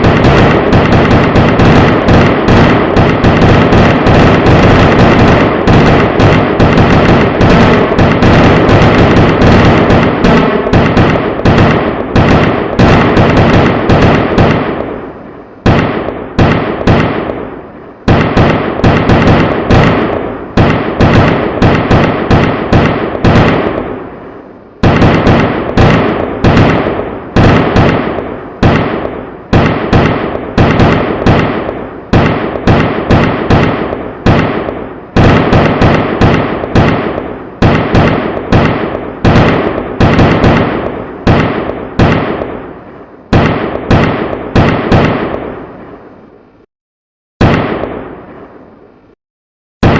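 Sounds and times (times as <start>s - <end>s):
firecrackers banging: 0.0s - 46.1s.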